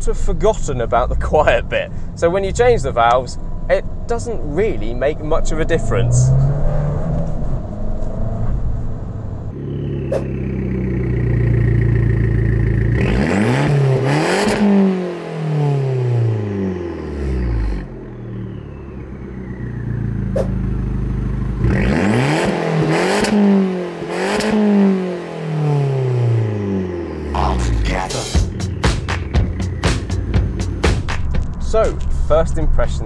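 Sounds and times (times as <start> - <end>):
car engine idling and revving: 0.0 - 33.0
exhaust crack: 0.0 - 33.0.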